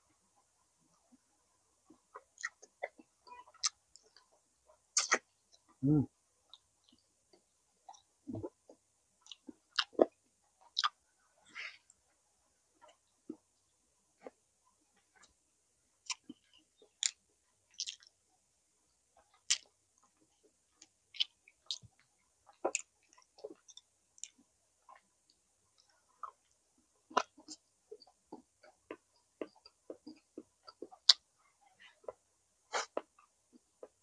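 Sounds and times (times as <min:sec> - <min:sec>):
person chewing food: 0:01.8 - 0:12.2, 0:14.2 - 0:14.4, 0:16.0 - 0:18.2, 0:19.2 - 0:34.0.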